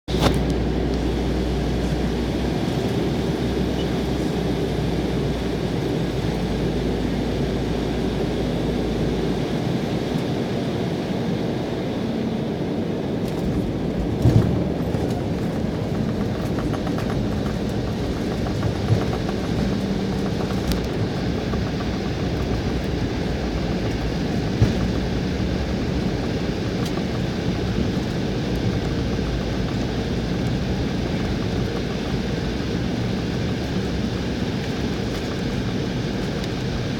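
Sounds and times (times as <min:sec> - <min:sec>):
airliner cabin engine rush: 0:00.0 - 0:36.9
low hum: 0:00.1 - 0:36.9.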